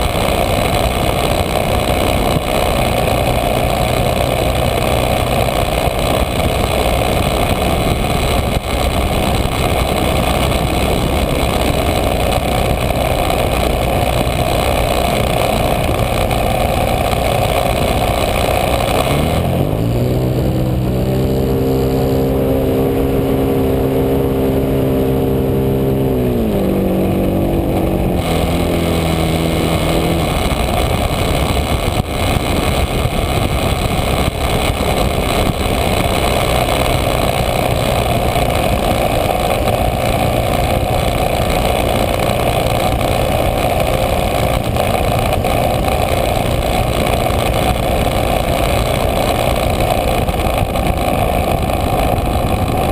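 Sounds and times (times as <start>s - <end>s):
model plane engine and propeller: 0.0s - 52.9s.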